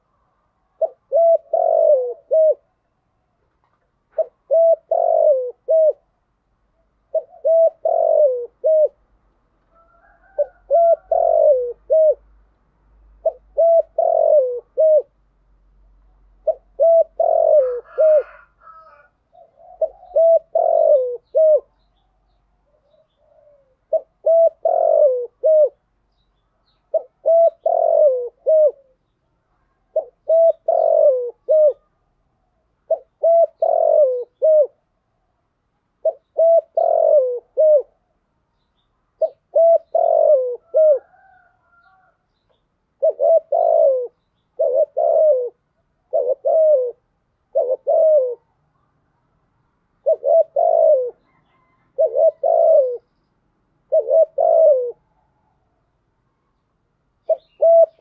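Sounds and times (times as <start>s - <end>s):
dove cooing: 0.0s - 2.8s, 4.1s - 6.2s, 6.8s - 9.1s, 9.7s - 12.4s, 13.1s - 15.2s, 16.3s - 26.0s, 26.6s - 35.0s, 36.0s - 38.2s, 39.2s - 42.2s, 42.9s - 48.6s, 50.0s - 53.1s, 53.8s - 55.7s, 57.2s - 58.0s.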